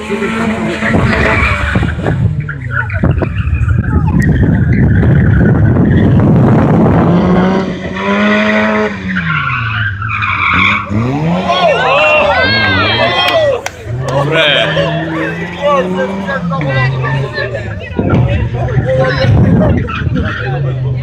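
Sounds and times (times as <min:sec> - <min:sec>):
rally car engine revving: 0:00.0 - 0:21.0
tyres skidding on pavement: 0:00.0 - 0:21.0.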